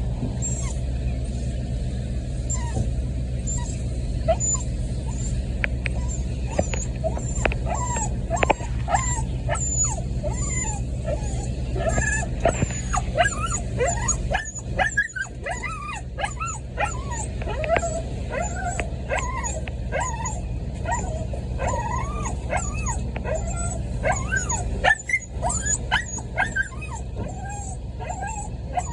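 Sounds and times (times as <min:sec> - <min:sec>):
low hum: 0:00.0 - 0:28.9
puppy whimpering: 0:00.4 - 0:00.8, 0:02.5 - 0:02.8, 0:03.4 - 0:28.9.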